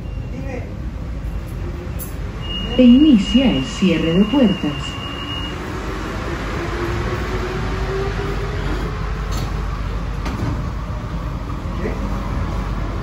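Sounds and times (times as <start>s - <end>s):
train interior rumble and hiss: 0.0s - 13.0s.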